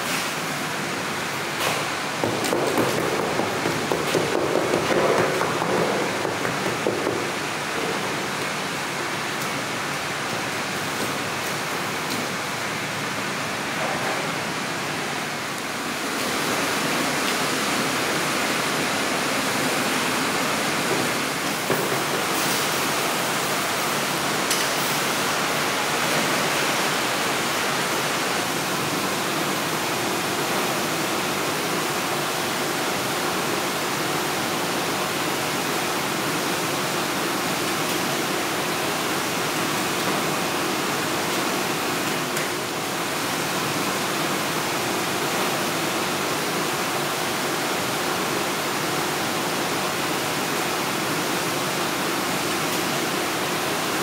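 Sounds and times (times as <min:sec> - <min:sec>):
factory ventilation and machinery: 0:00.0 - 0:54.0.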